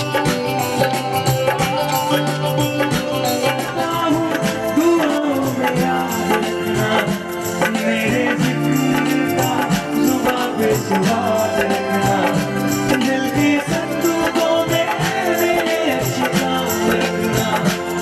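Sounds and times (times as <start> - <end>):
film love song with percussion beat: 0.0 - 18.0.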